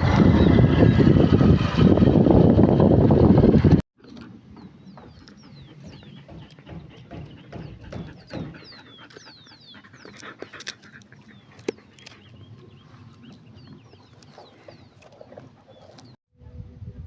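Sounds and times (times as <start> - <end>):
birds chirping: 0.0 - 1.8, 4.0 - 16.2.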